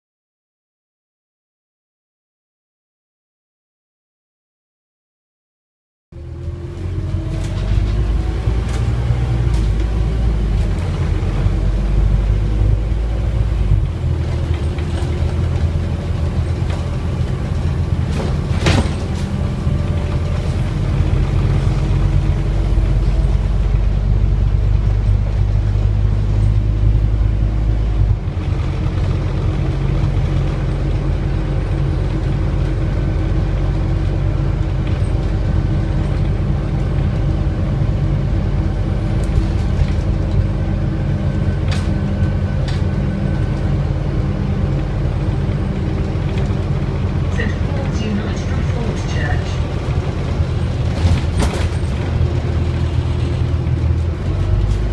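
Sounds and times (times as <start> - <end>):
bus diesel engine droning: 6.2 - 54.9.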